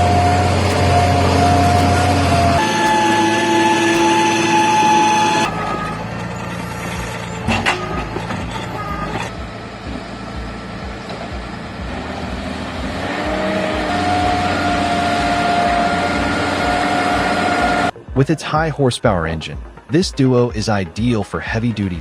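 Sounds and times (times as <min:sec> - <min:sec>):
steady engine whine: 0:00.0 - 0:20.0
tractor engine running: 0:00.0 - 0:22.0.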